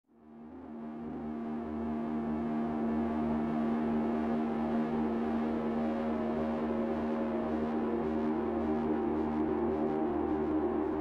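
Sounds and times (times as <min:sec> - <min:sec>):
ambient drone music: 0:00.2 - 0:11.0.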